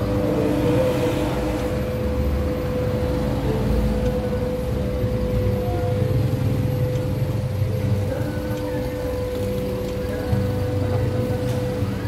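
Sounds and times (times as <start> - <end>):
car engine idling: 0.0 - 12.0
constant mid-pitched tone: 0.0 - 12.0.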